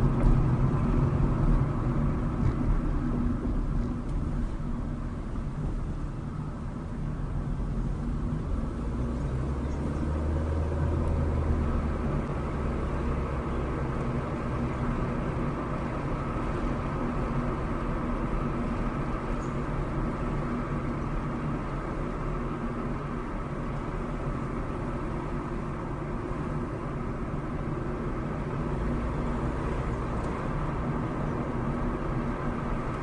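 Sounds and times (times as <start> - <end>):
car engine hum: 0.0 - 33.0
tyre and road noise: 0.0 - 33.0.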